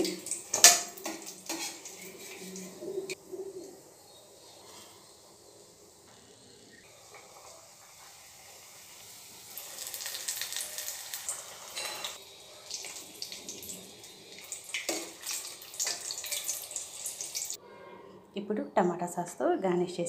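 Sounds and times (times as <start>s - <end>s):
oil sizzling and crackling: 0.0s - 3.2s, 4.2s - 17.6s.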